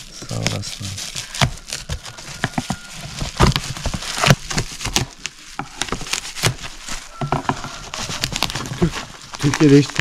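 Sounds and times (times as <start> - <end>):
bubble wrap crinkling and crackling: 0.0 - 10.0.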